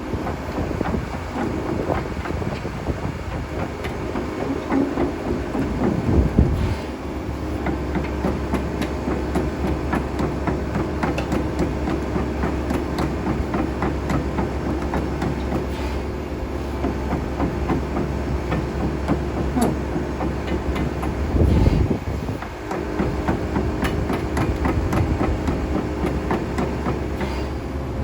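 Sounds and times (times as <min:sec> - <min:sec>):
excavator diesel engine humming: 0:00.0 - 0:28.0.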